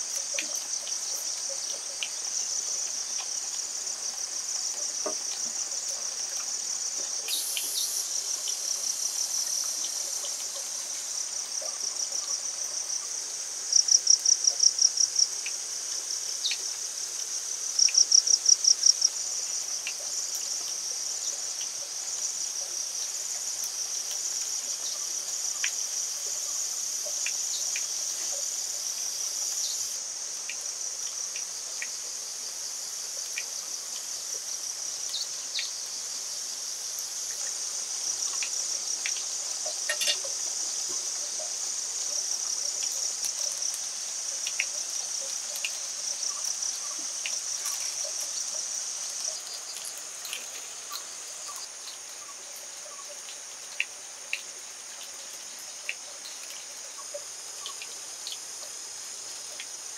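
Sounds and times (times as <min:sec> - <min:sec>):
high-pitched insect chorus: 0:00.0 - 0:59.9
nearby insect calling: 0:00.0 - 0:59.9.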